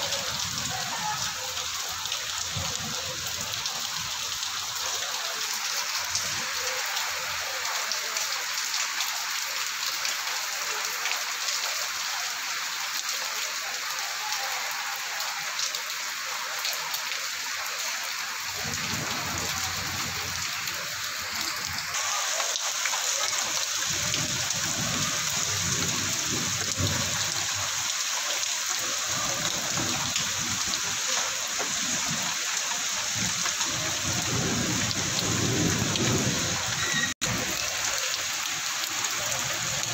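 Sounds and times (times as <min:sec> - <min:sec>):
heavy rain splashing on pavement: 0:00.0 - 0:39.9.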